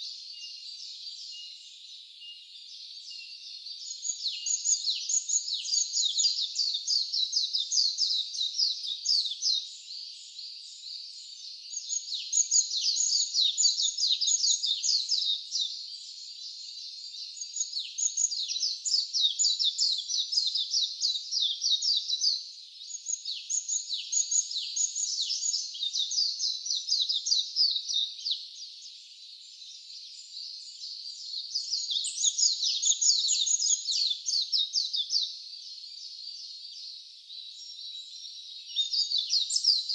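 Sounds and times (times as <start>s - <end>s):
chorus of high-pitched chirps: 0.0s - 39.9s.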